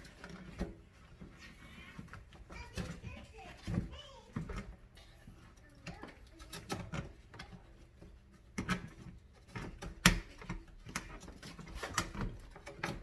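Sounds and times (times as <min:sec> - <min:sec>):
plastic parts clicking and knocking: 0:00.0 - 0:13.0.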